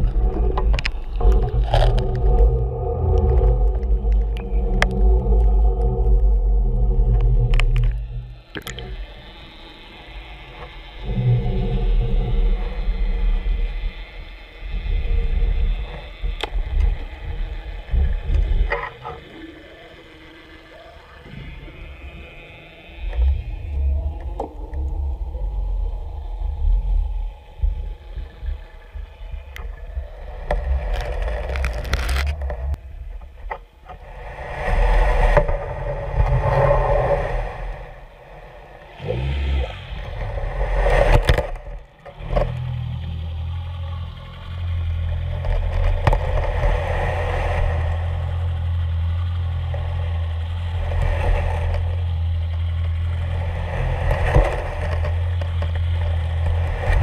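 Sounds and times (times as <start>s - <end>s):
dredge scraping seabed underwater: 0.0s - 57.0s.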